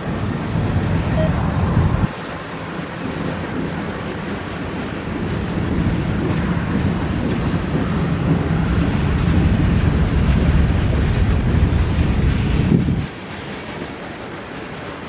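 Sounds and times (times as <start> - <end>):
diesel locomotive engine rumble: 0.0 - 15.0
train on rails: 0.0 - 15.0.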